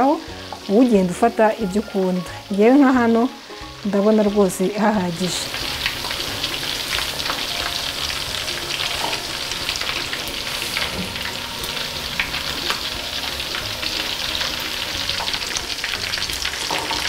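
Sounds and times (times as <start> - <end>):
meatballs sizzling in oil: 0.0 - 17.0.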